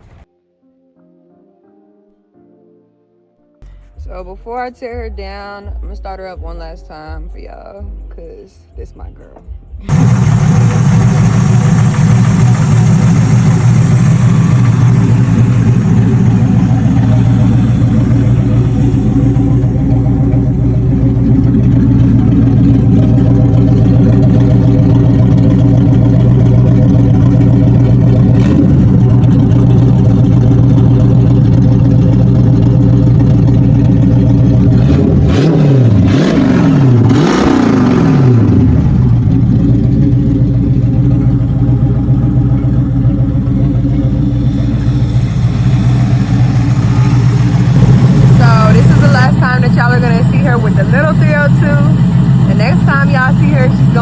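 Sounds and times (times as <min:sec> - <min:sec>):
car engine idling and revving: 0:09.2 - 0:54.0.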